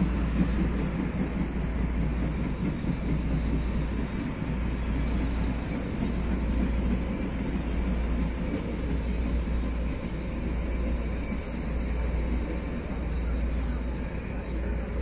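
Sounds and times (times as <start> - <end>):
light rail train rumbling: 0.0 - 15.0.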